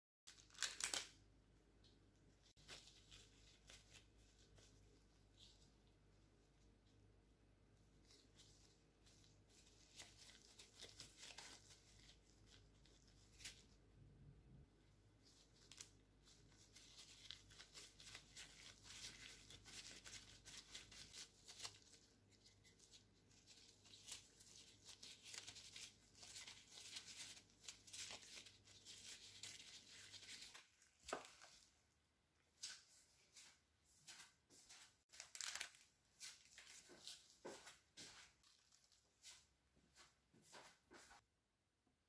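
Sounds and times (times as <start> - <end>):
plastic gloves crinkling: 0.3 - 1.2, 1.8 - 7.0, 7.7 - 13.8, 15.1 - 39.6.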